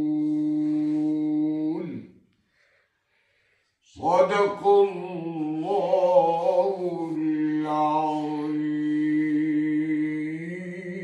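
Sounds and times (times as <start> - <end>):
man reciting melodically: 0.0 - 2.3, 3.8 - 11.0.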